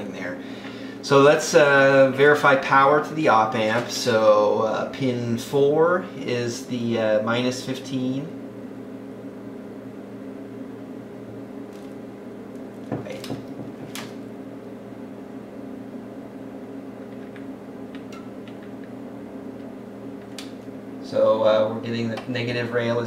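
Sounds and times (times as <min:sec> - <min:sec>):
electronics humming: 0:00.0 - 0:23.0.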